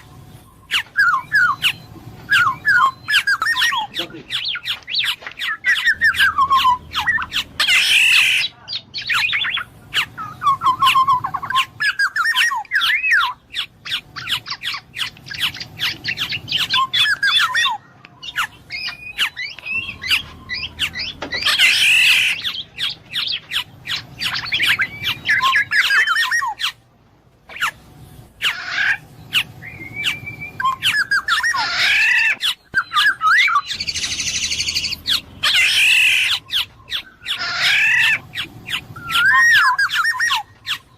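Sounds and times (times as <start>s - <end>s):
bird whistling and chattering: 0.0s - 26.8s, 27.5s - 40.9s
bird harsh squawks: 0.7s - 26.8s, 28.4s - 40.9s.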